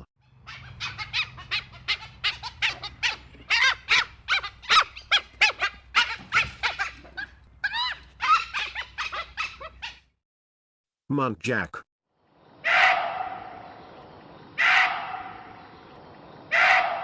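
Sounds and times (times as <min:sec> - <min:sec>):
wild dog yelping: 0:00.2 - 0:10.1, 0:12.6 - 0:13.9, 0:14.5 - 0:17.0.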